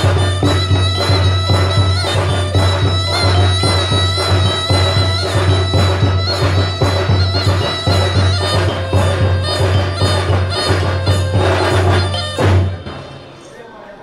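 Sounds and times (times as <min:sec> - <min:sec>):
steady drum beat: 0:00.0 - 0:13.3
wind instrument melody: 0:00.0 - 0:13.5.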